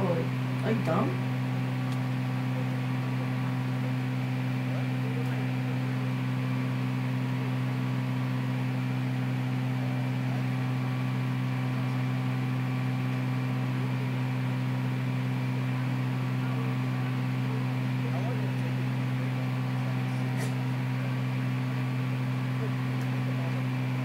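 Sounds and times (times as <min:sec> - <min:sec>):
low buzzy electrical hum: 0:00.0 - 0:24.0.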